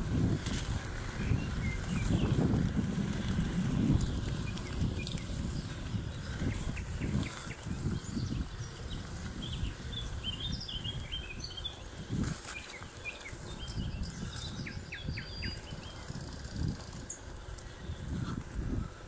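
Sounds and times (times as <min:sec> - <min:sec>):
birds chirping and whistling: 0:00.8 - 0:19.0.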